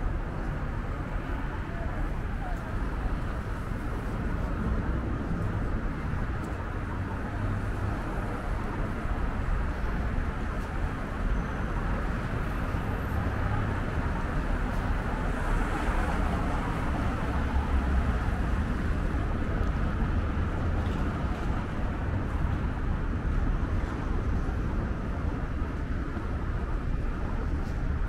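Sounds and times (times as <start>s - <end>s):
cars and trucks passing: 0.0s - 28.0s.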